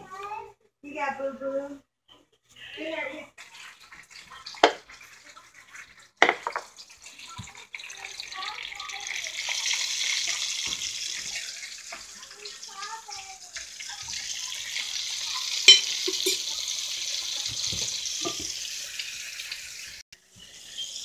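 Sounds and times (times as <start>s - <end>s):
chicken frying in oil: 3.2s - 21.0s.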